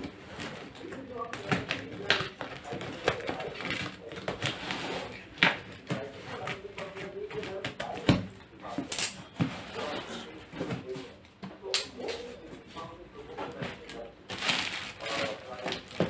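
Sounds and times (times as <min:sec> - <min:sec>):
rustling tape and cardboard: 0:00.0 - 0:11.3, 0:11.9 - 0:16.0.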